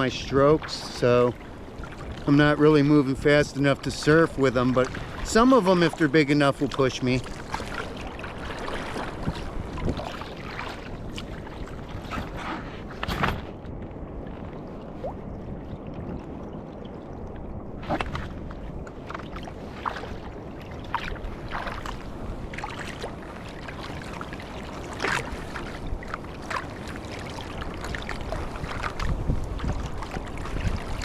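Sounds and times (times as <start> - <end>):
paddle blade splashes: 0.0 - 31.0
water lapping around kayak: 0.0 - 31.0
wind: 0.0 - 31.0.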